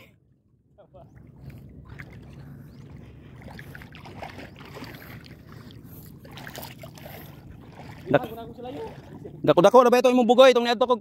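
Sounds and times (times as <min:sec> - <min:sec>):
steady low rumble: 0:00.0 - 0:10.4
water sloshing around wading person: 0:00.8 - 0:10.0.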